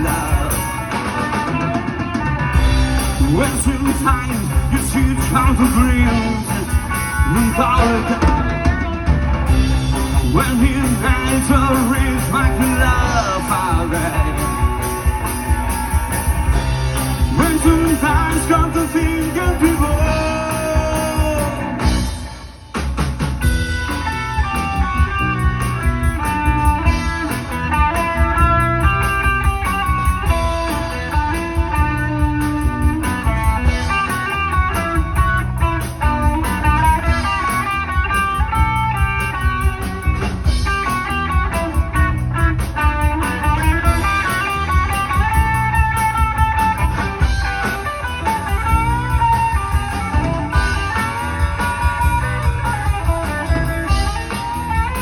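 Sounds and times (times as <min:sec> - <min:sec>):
bass guitar: 0:00.0 - 0:55.0
drums with steady beat: 0:00.0 - 0:55.0
electric guitar melody: 0:00.0 - 0:55.0.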